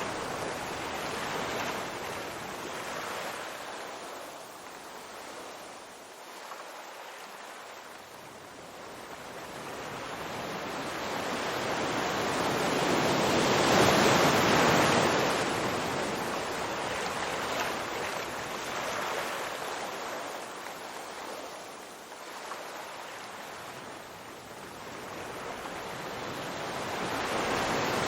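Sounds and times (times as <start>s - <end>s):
ocean waves breaking on shore: 0.0s - 28.0s.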